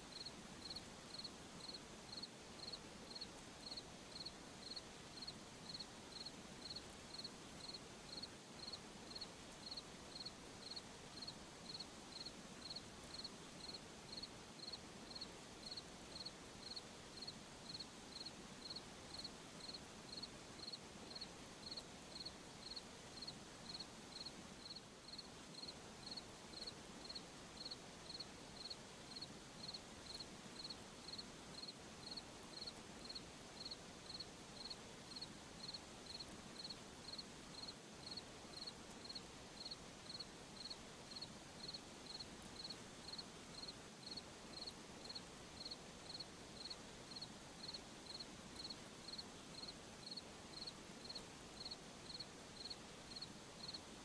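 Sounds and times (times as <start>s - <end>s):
hiss of night insects: 0.0s - 54.0s
cricket chirping: 0.1s - 53.8s.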